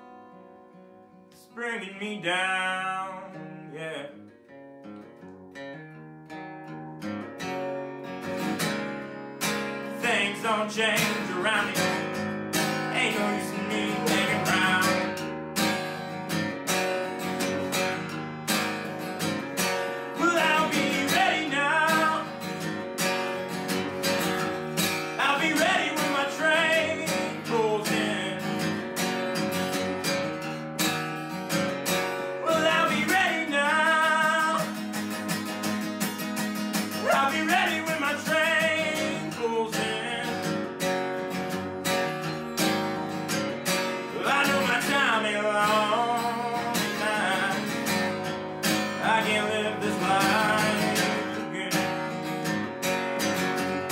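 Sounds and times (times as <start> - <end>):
acoustic blues guitar: 0.0 - 53.9.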